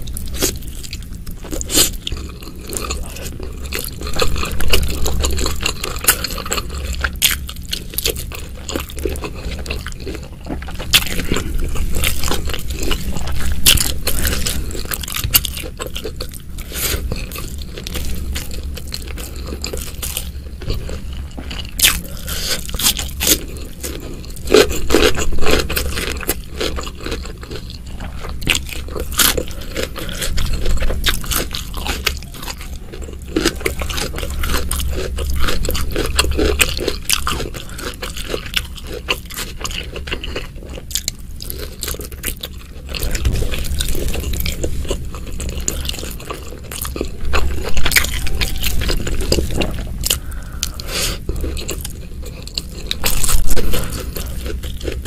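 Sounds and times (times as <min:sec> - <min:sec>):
person biting and chewing: 0:00.0 - 0:55.0.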